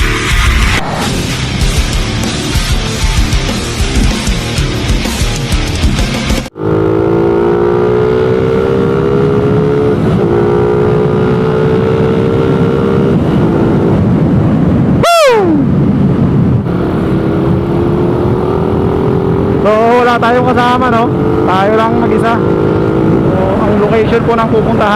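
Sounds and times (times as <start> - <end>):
motorcycle engine accelerating: 0.0 - 15.0, 15.6 - 24.9.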